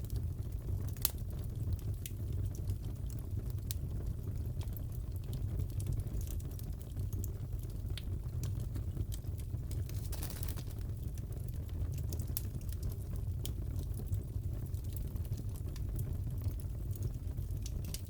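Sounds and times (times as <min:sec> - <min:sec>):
fire popping and snapping: 0:00.0 - 0:18.0
low rumble of burning wood: 0:00.0 - 0:18.0.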